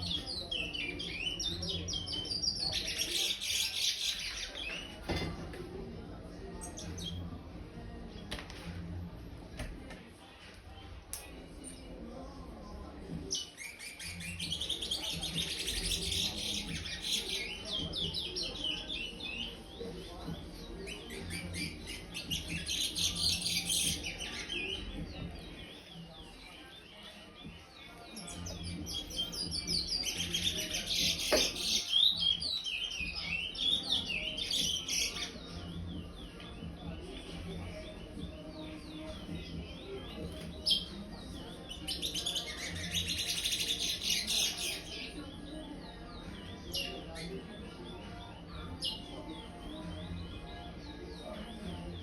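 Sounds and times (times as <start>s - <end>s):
finch singing high chirps: 0.0s - 5.0s, 13.3s - 27.6s, 28.2s - 52.0s.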